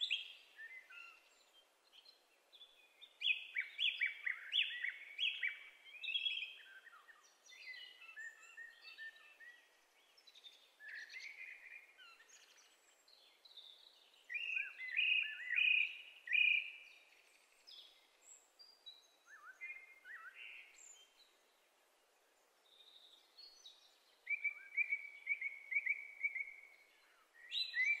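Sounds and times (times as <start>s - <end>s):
blackbird singing: 0.0s - 21.5s, 22.6s - 28.0s.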